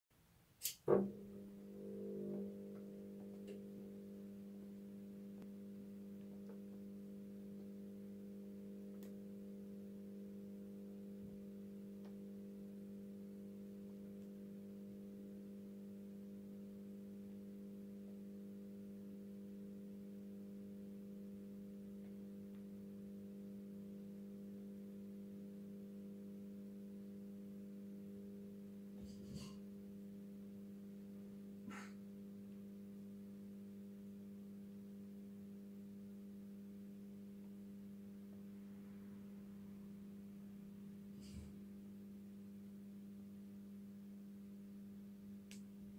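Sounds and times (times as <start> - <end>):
street light electrical hum: 0.5 - 45.9.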